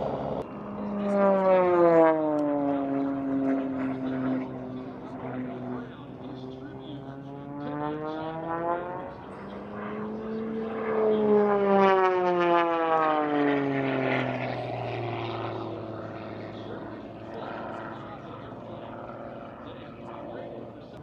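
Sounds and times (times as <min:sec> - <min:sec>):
propeller aircraft flying past: 0:00.0 - 0:21.0.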